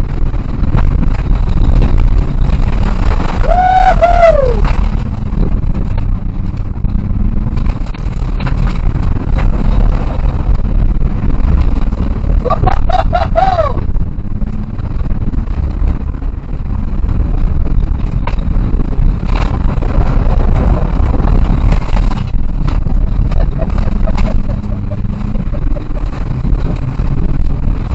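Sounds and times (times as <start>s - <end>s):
car engine at high revs: 0.0s - 27.9s
road and gravel noise: 0.0s - 27.9s.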